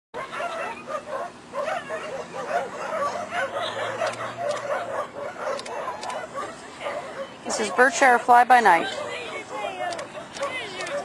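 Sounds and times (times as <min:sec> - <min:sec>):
background chatter: 0:00.2 - 0:11.0
dogs barking and yipping: 0:00.2 - 0:11.0.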